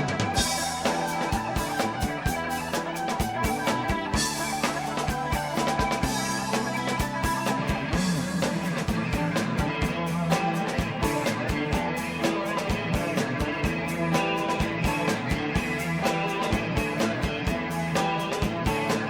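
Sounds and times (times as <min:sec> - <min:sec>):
drum kit beat with rimshots: 0:00.0 - 0:19.0
live rock band playing: 0:00.0 - 0:19.0.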